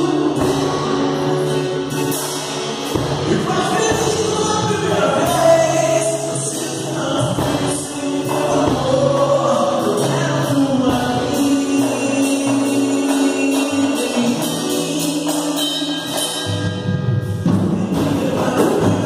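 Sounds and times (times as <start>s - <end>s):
group singing: 0.0s - 16.5s, 17.5s - 19.0s
acoustic guitar: 0.0s - 19.0s
low bass notes: 0.0s - 19.0s.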